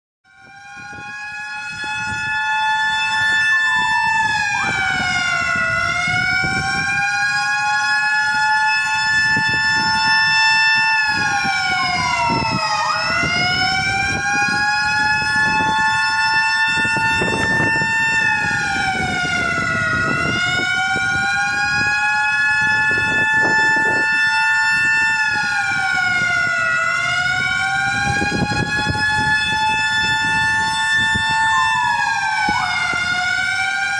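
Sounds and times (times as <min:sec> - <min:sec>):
sirens blaring: 0:00.2 - 0:33.9.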